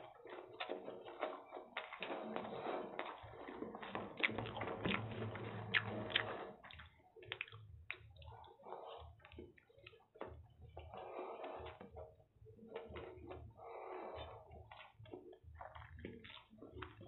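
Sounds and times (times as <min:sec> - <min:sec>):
chewing: 0:00.0 - 0:17.0
fingers squelching through noodles: 0:00.0 - 0:17.0.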